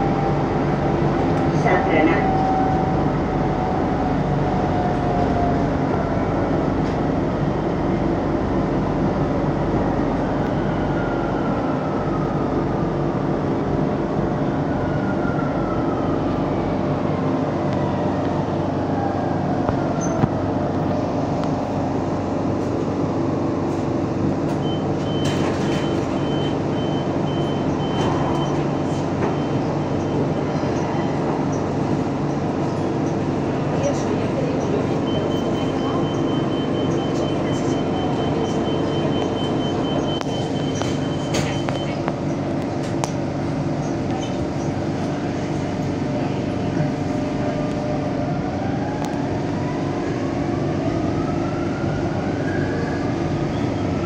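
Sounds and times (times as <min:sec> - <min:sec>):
metro train rumble and hum: 0:00.0 - 0:54.0.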